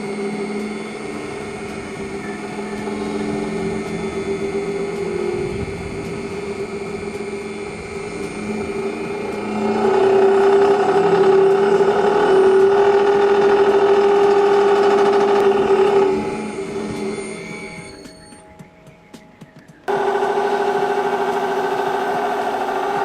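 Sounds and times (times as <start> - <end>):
mill motor humming: 0.0 - 23.0.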